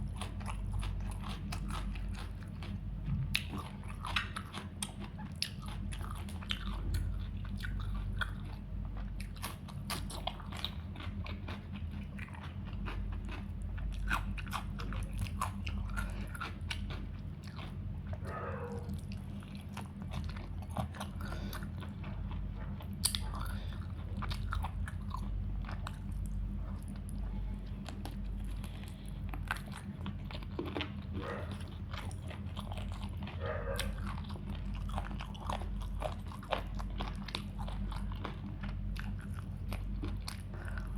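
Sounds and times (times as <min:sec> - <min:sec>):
person chewing food: 0:00.0 - 0:40.9
steady low hum: 0:00.0 - 0:40.9.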